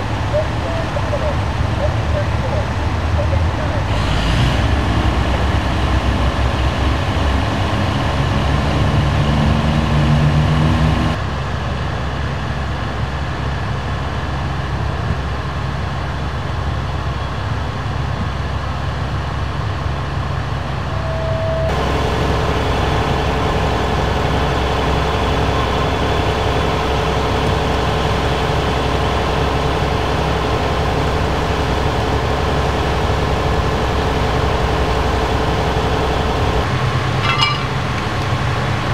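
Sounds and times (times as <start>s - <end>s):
diesel engines idling: 0.0s - 38.9s.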